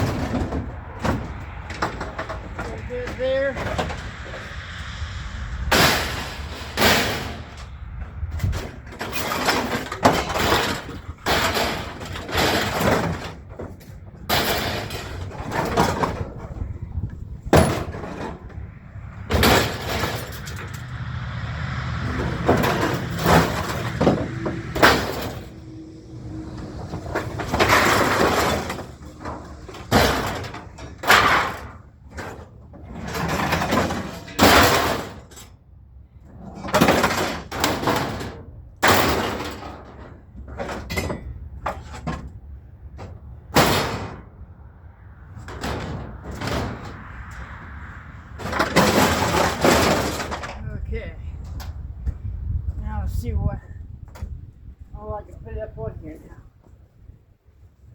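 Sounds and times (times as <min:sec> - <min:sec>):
scrap metal clanking and crashing: 0:00.0 - 0:51.9.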